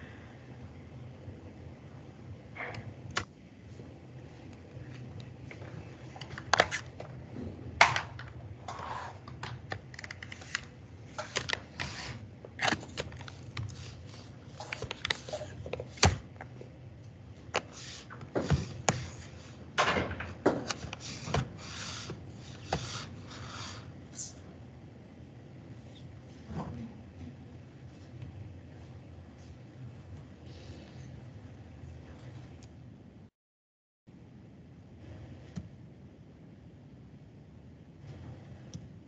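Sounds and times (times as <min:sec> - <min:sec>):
low steady hum: 0:00.0 - 0:33.3, 0:34.1 - 0:39.0.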